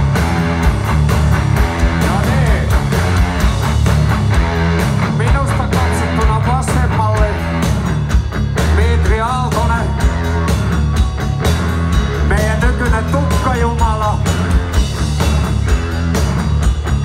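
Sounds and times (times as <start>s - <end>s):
heavy metal band playing: 0.0s - 17.0s.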